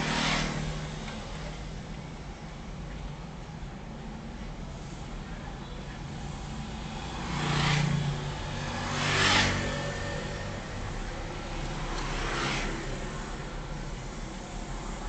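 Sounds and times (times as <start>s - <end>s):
steady traffic hum: 0.0s - 15.0s
vehicles passing close by: 0.0s - 15.0s.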